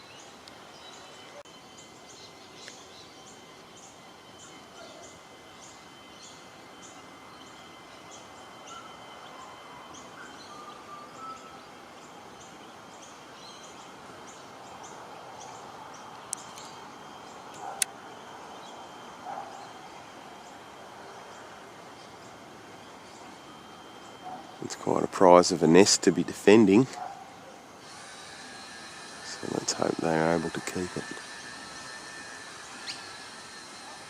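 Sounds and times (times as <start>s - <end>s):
lower bird calls: 0.0s - 33.7s
birds chirping: 0.0s - 34.0s.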